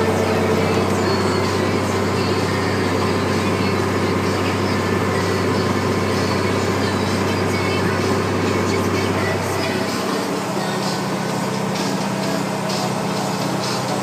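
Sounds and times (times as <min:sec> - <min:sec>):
tractor diesel engine droning: 0:00.0 - 0:14.0.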